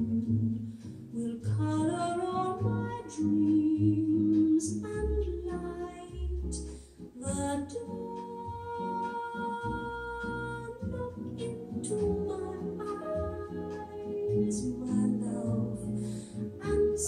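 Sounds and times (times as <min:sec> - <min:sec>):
sustained bass notes: 0:00.0 - 0:17.0
woman singing a slow ballad: 0:00.0 - 0:17.0.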